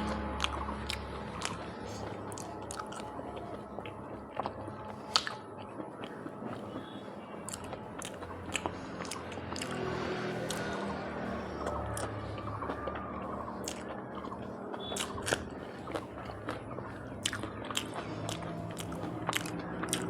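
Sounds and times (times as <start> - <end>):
wet mouth clicks: 0.0 - 6.8, 7.4 - 12.9, 13.5 - 20.0
person biting and chewing food: 0.0 - 20.0.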